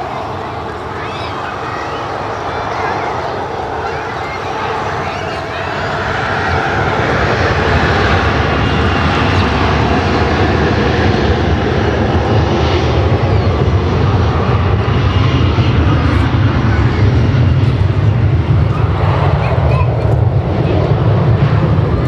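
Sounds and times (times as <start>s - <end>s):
jet airliner engines roaring: 0.0s - 22.0s.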